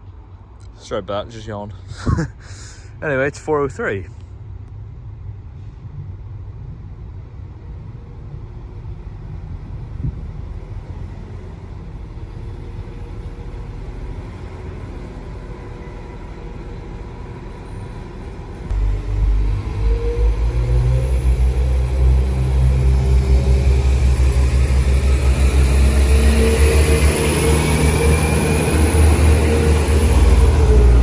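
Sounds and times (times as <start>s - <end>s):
diesel train rumbling: 0.0s - 31.0s.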